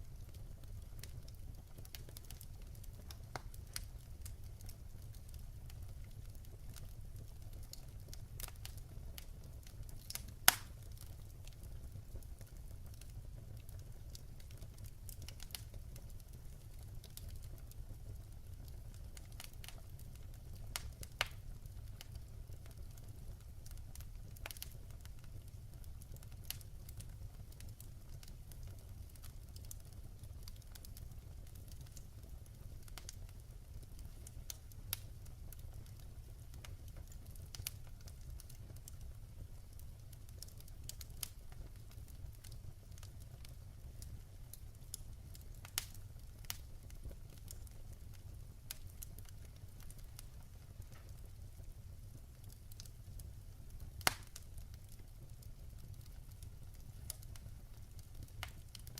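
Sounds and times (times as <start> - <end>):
low fire rumble: 0.0 - 58.9
wood fire crackling and popping: 0.0 - 58.9.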